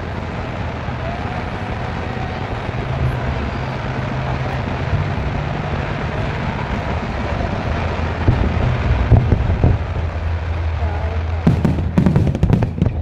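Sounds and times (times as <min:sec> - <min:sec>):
fountain fireworks hissing: 0:00.0 - 0:13.0.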